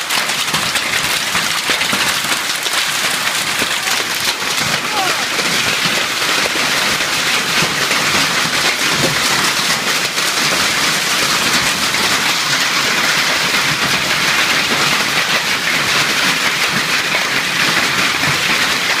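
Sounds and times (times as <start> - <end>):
hail and rain on pavement: 0.0 - 19.0.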